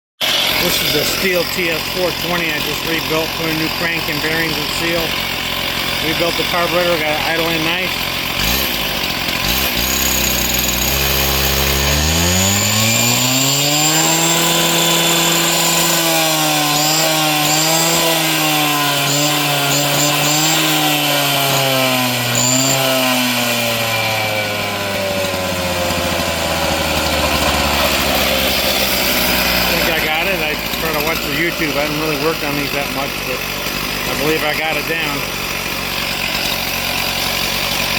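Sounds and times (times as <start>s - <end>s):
cut-off saw engine revving: 0.2s - 37.9s.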